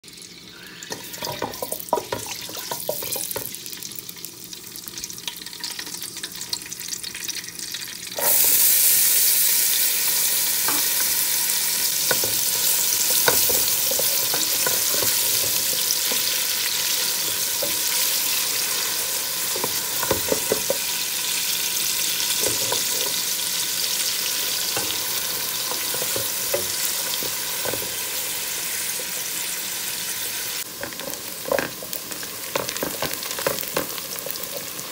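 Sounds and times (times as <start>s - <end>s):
onions frying in oil: 0.0s - 34.9s
seeds sizzling in hot oil: 0.0s - 34.9s.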